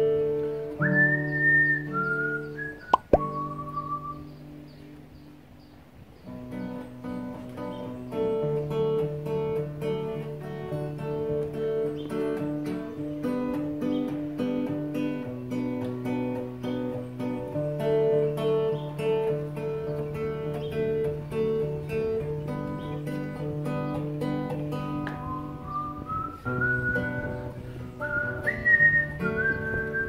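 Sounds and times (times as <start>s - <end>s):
acoustic guitar strumming: 0.0s - 5.4s, 6.2s - 30.0s.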